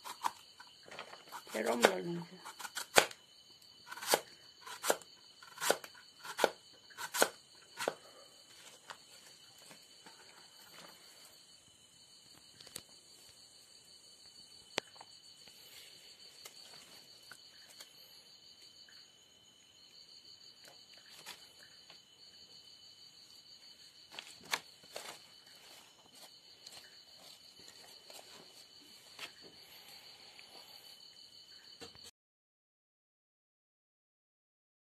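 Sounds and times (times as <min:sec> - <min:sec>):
crickets trilling: 0:00.0 - 0:32.1.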